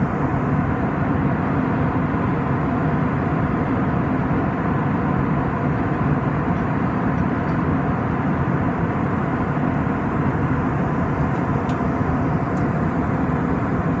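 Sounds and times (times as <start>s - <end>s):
aircraft cabin engine roar: 0.0s - 14.0s.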